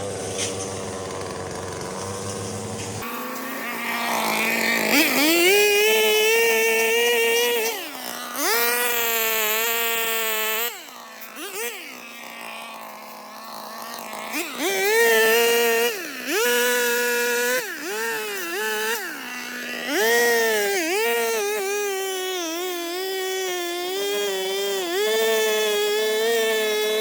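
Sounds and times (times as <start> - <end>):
small petrol engine revving: 0.0 - 27.0.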